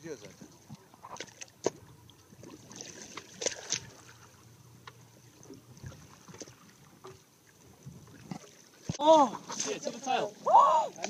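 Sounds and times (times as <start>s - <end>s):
water lapping against boat: 0.0s - 11.0s.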